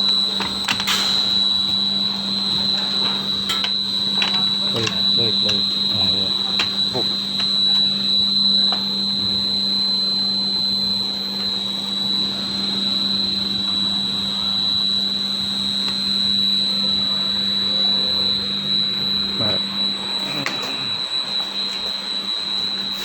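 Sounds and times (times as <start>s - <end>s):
high steady whine: 0.0s - 23.0s
machine motor hum: 0.0s - 23.0s.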